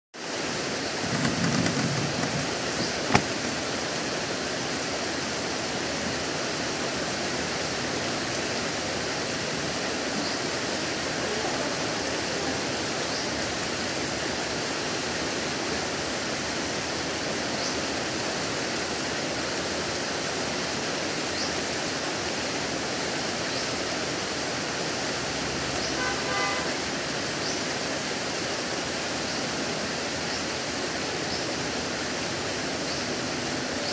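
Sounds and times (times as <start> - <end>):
heavy rain on foliage: 0.2 - 33.9.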